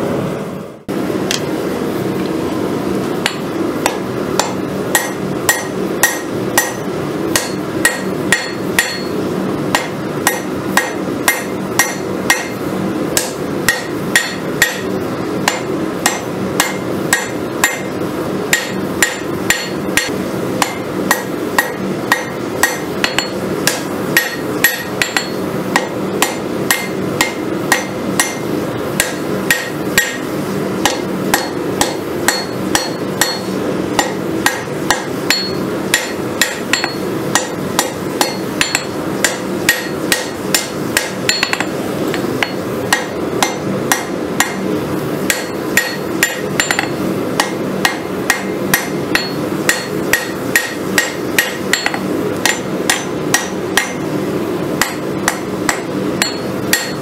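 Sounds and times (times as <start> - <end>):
hammer striking metal on anvil: 3.2 - 12.6, 13.2 - 54.0, 54.8 - 57.0.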